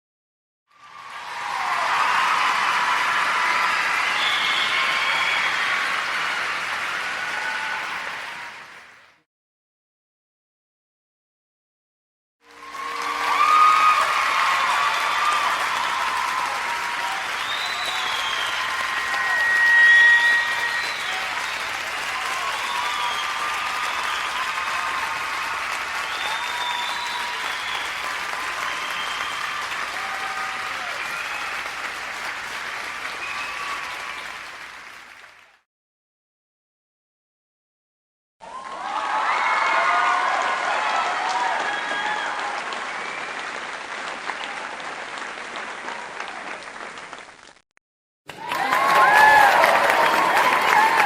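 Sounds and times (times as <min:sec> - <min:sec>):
crowd applauding: 0:00.7 - 0:09.2, 0:12.4 - 0:35.6, 0:38.4 - 0:47.6, 0:48.3 - 0:51.0.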